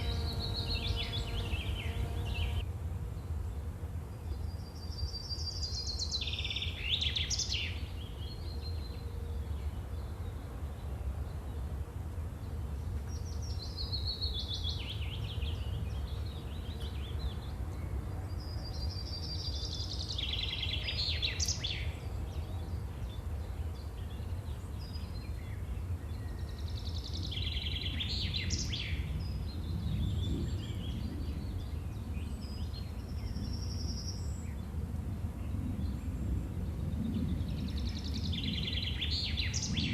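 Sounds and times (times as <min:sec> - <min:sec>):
songbird singing trill: 0:00.0 - 0:02.6, 0:04.3 - 0:10.5, 0:13.0 - 0:34.7, 0:37.2 - 0:39.9.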